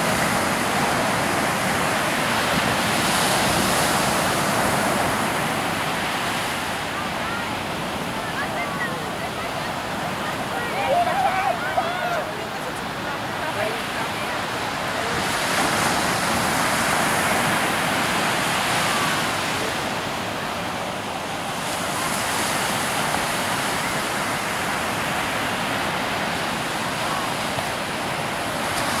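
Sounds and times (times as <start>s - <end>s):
waves breaking on a beach: 0.0s - 29.0s.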